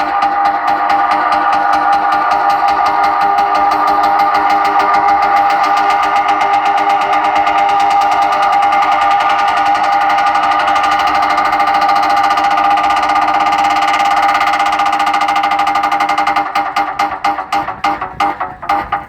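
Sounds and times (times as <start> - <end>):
pulsing buzzing drone: 0.0 - 19.0.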